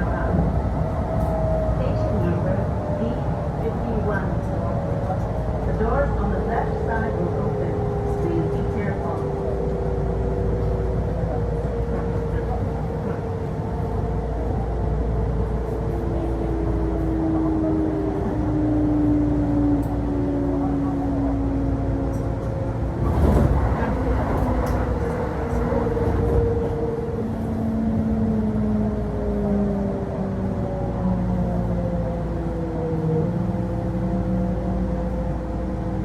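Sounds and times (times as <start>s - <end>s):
electric train rumble: 0.0s - 36.0s.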